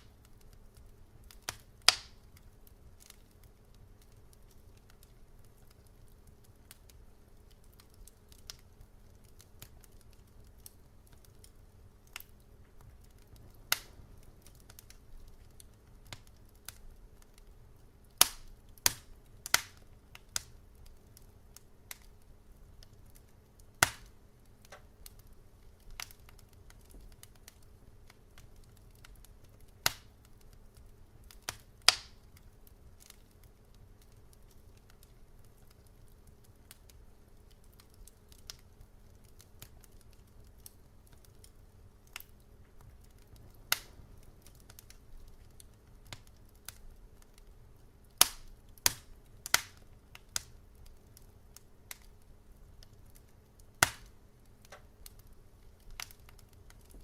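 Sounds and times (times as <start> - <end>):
sharp fire pops: 0.0 - 5.8, 6.7 - 17.5, 18.1 - 33.2, 39.3 - 47.2, 48.1 - 51.3, 52.8 - 57.0
wood fire crackling: 0.0 - 57.0.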